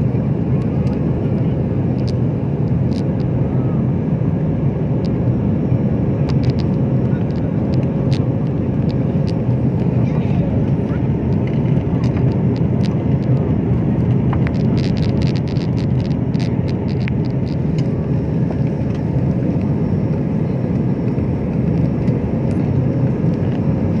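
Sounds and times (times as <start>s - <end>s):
jet engine and airflow noise: 0.0s - 24.0s.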